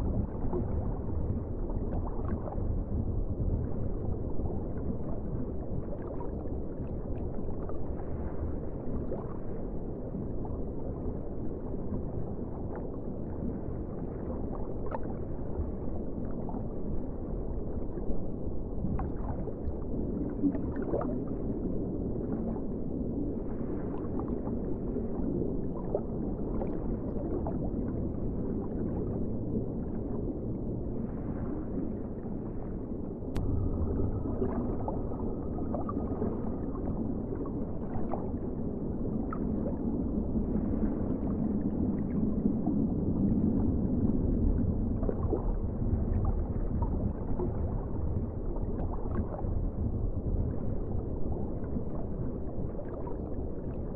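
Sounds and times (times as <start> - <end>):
muffled underwater rumble: 0.0 - 53.9.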